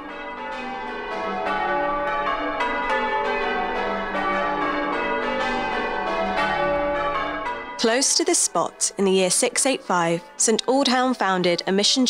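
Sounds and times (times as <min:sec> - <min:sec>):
church bells ringing: 0:00.0 - 0:11.6.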